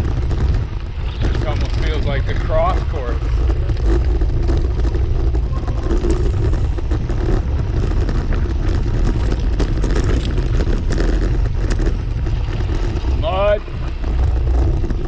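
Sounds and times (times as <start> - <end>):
bike knocking and rattling: 0.0 - 15.0
wind buffeting microphone: 0.0 - 15.0.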